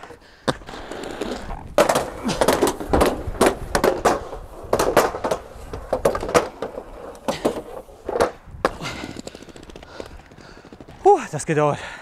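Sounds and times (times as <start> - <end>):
inline skates rolling on pavement: 0.0 - 11.3.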